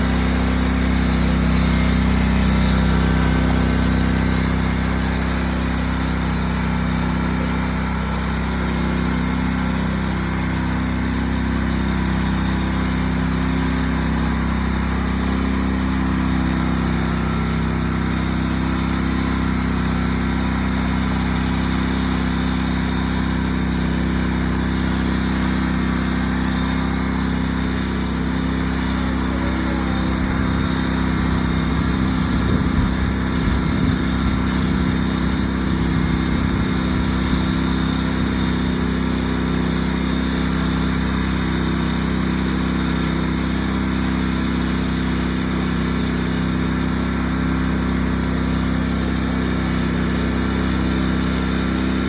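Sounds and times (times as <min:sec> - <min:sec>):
riding lawn mower engine: 0:00.0 - 0:52.0.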